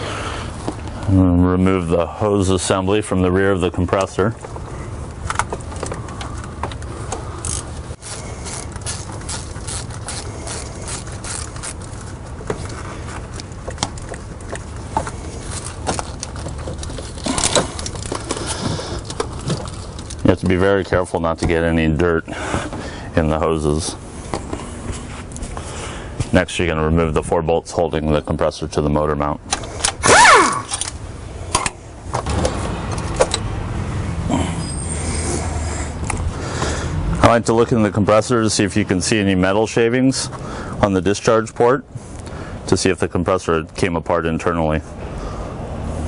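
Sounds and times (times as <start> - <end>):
steady low hum: 0.0 - 37.3.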